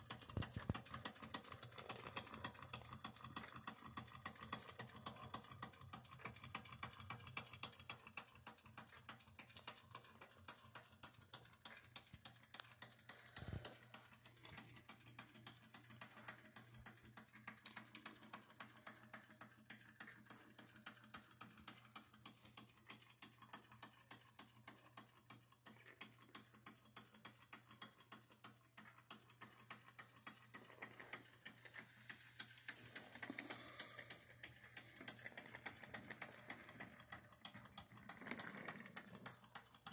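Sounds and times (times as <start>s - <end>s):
toy steam engine ticking: 0.0s - 39.9s.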